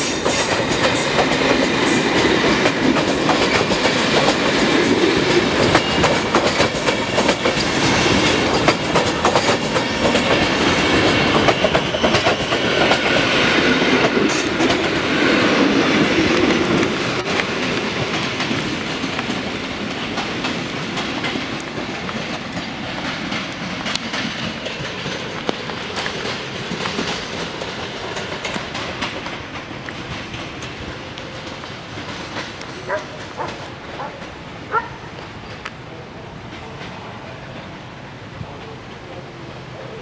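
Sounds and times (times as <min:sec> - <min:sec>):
train wheels clicking over rail joints: 0:00.0 - 0:37.9.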